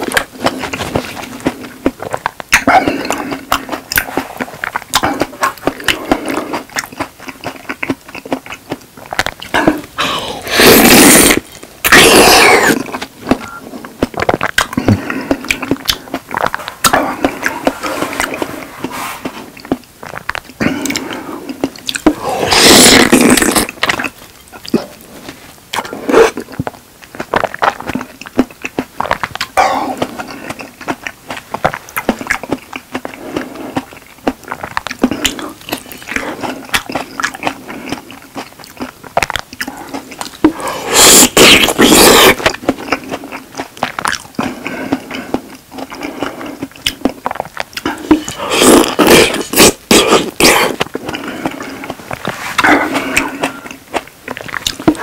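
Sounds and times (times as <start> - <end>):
mouth clicks and smacks: 0.0 - 25.0, 25.6 - 55.0
person chewing wetly: 0.0 - 55.0.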